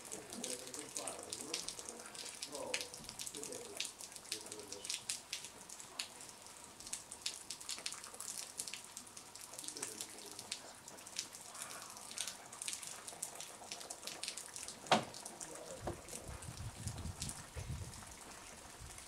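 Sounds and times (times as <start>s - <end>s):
water drops pattering: 0.0s - 16.4s.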